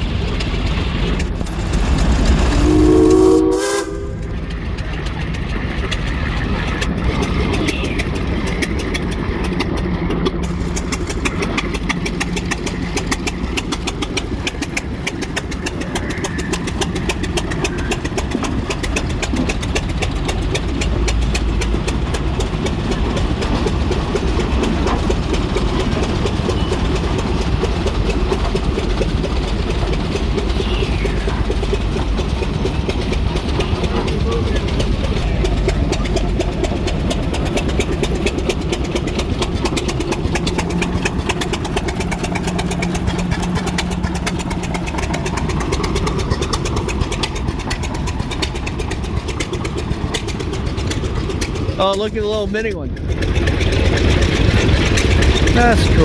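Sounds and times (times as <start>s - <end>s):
old engine running: 0.0s - 56.0s.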